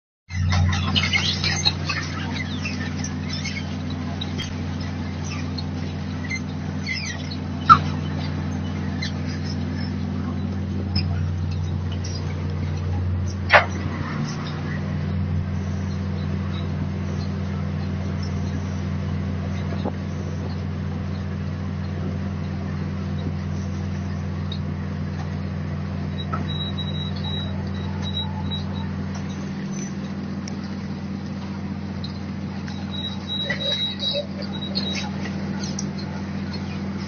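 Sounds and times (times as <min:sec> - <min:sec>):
boat machinery droning: 0:00.3 - 0:37.0.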